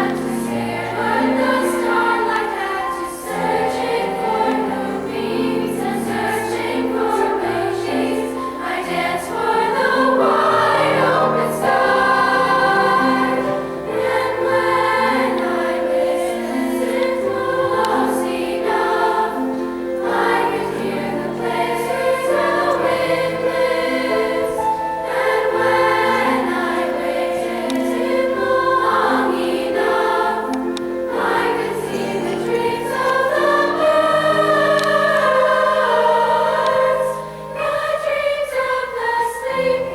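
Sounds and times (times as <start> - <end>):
girls' choir singing: 0.0 - 39.9
low held accompaniment notes: 0.0 - 39.9.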